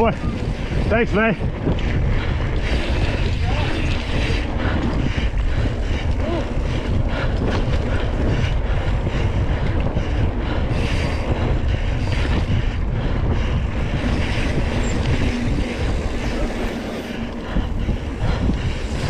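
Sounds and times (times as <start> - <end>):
mountain bike rumbling and rattling: 0.0 - 19.0
wind buffeting microphone: 0.0 - 19.0.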